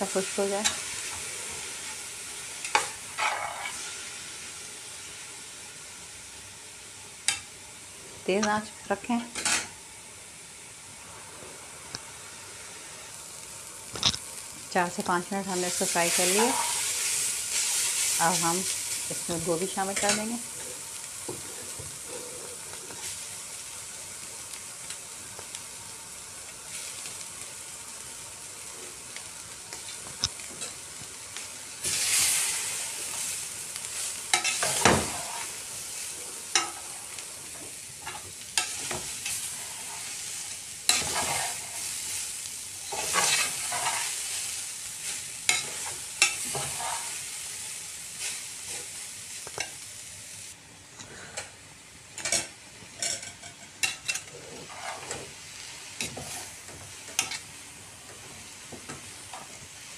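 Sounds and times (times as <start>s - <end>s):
vegetables sizzling in a pot: 0.0s - 59.9s.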